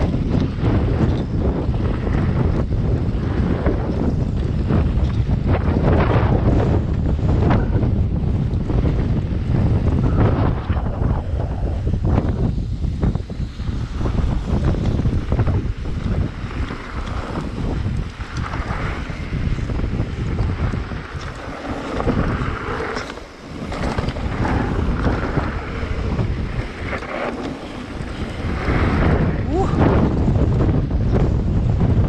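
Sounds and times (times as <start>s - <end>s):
mountain bike rattling on dirt: 0.0s - 32.0s
wind buffeting microphone: 0.0s - 32.0s.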